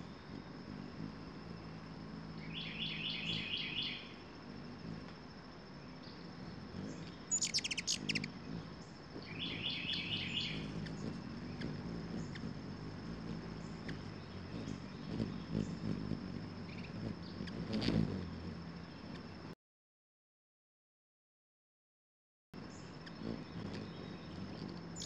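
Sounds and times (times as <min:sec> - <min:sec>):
small birds chirping: 0:00.0 - 0:19.5, 0:22.6 - 0:25.0.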